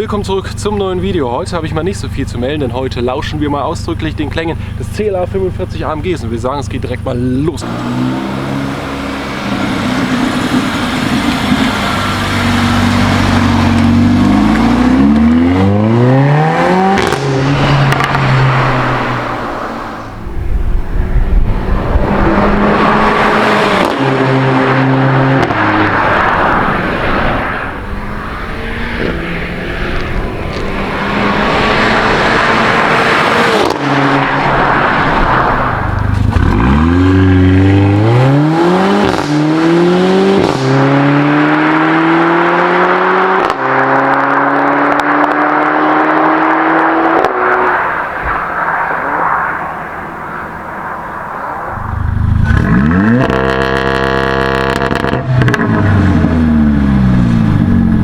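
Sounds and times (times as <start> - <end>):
car engine accelerating with upshifts: 0.0 - 58.0.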